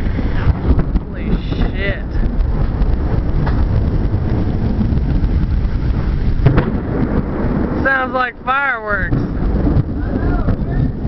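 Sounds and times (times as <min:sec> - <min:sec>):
rain: 0:00.0 - 0:11.0
sharp thunder cracks: 0:00.0 - 0:11.0
thunder rumbling: 0:00.0 - 0:11.0
wind buffeting microphone: 0:00.0 - 0:11.0.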